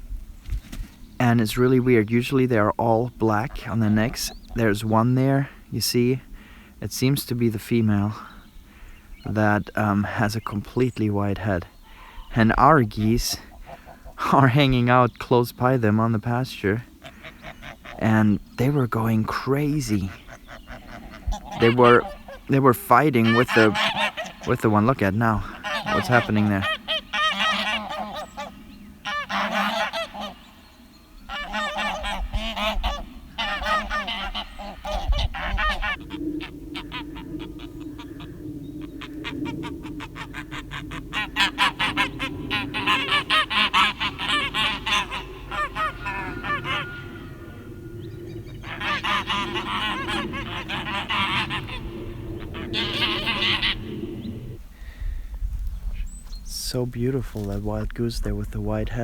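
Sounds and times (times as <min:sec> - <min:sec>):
geese honking loudly: 0:01.2 - 0:54.6.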